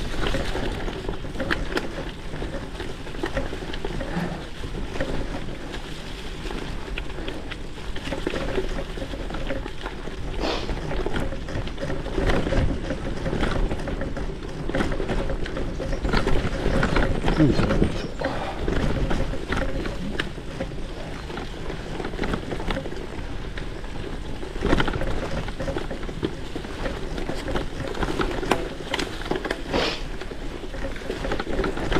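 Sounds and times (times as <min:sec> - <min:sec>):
bike tyres rumbling on dirt: 0:00.0 - 0:31.9
small clicks and rattles: 0:00.0 - 0:31.9.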